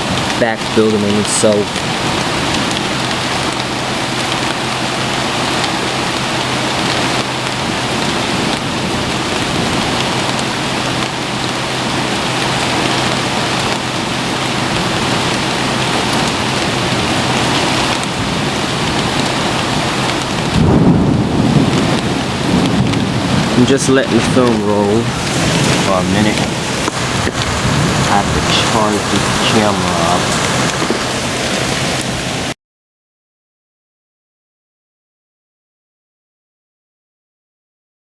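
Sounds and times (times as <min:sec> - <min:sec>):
heavy rain pouring: 0:00.0 - 0:32.6.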